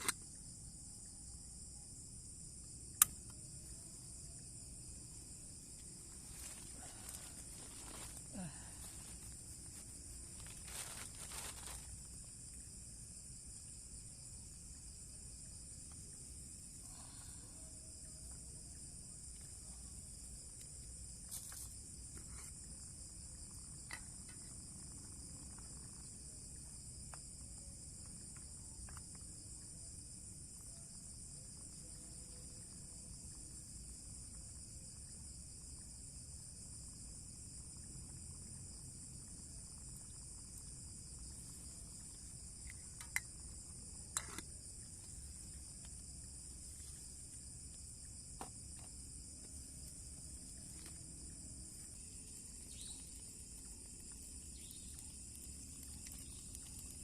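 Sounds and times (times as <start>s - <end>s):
shrill insect chorus: 0.0s - 57.0s.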